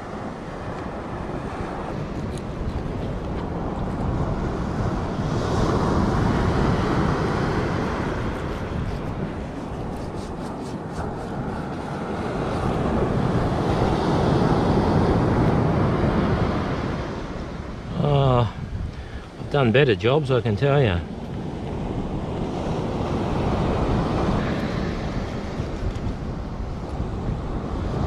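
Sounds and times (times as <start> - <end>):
ocean surf washing on beach: 0.0 - 28.0
wind buffeting microphone: 0.0 - 28.0.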